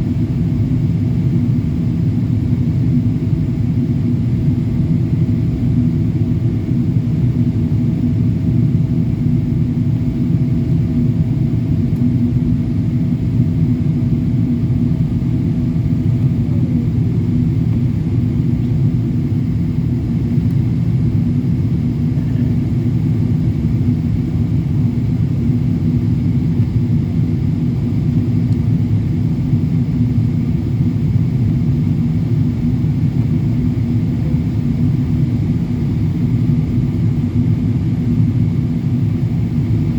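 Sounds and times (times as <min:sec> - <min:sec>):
deep rumble of jet engines: 0:00.0 - 0:39.9
faint steady whine: 0:00.0 - 0:39.9.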